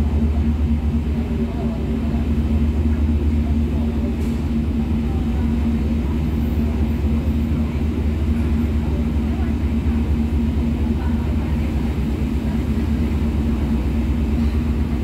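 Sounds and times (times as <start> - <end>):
constant engine hum: 0.0 - 15.0
ferry engine rumbling: 0.0 - 15.0.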